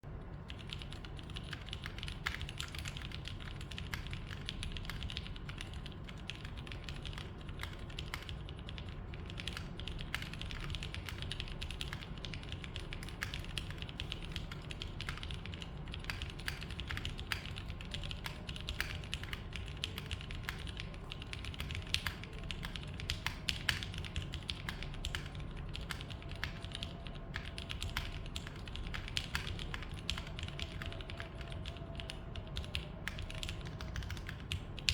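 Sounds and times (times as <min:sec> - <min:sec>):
mechanical keyboard typing: 0:00.4 - 0:34.9.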